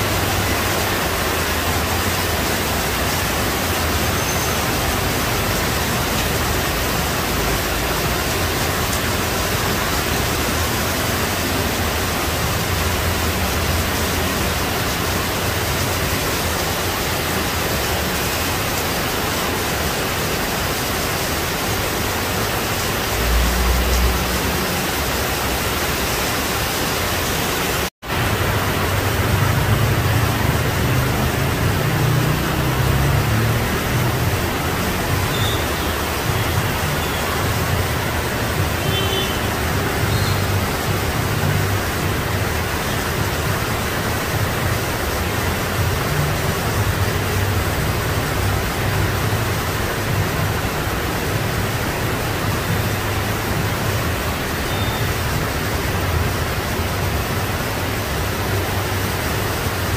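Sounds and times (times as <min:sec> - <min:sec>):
heavy rain on street: 0:00.0 - 0:59.9
passing traffic rumble: 0:00.0 - 0:59.9.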